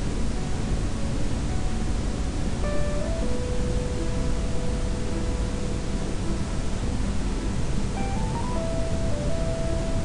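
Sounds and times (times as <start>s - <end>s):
faint held musical tones: 0.0s - 10.0s
microphone hiss: 0.0s - 10.0s.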